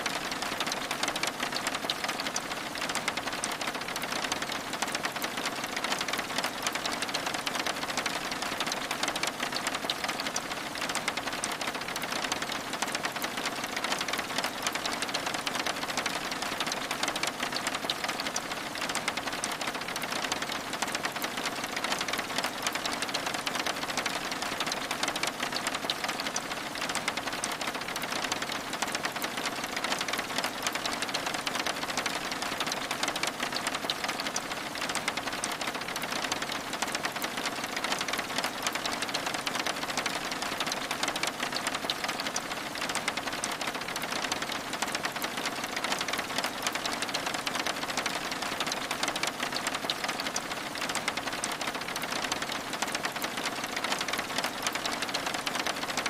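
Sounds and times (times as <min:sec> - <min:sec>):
rain on window glass: 0:00.0 - 0:56.0.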